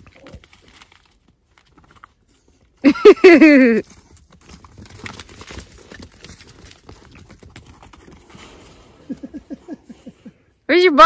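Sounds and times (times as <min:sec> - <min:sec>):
trotters clicking and scuffing: 0:00.0 - 0:02.8, 0:03.7 - 0:10.0.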